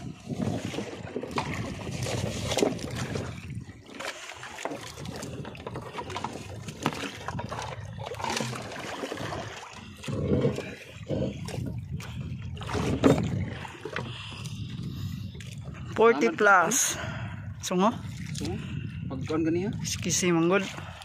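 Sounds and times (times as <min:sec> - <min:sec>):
water splashing against boat hull: 0:00.0 - 0:21.0.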